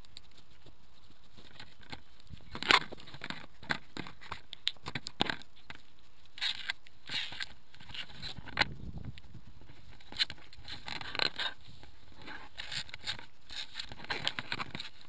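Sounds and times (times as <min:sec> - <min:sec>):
clicks and scrapes on camera housing: 0:00.0 - 0:15.0
rustling scrapes: 0:00.0 - 0:15.0.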